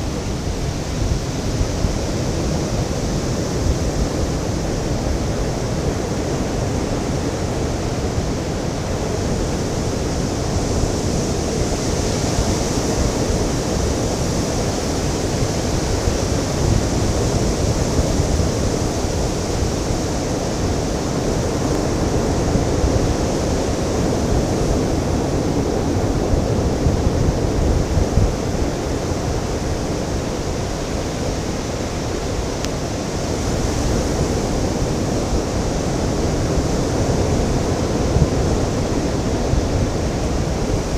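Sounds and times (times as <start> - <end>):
ocean surf washing onto beach: 0.0 - 40.9.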